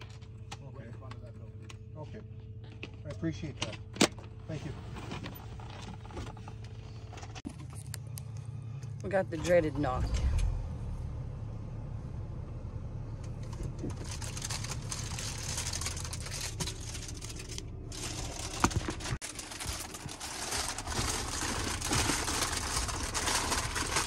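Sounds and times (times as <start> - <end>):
van engine running: 0.0 - 24.0.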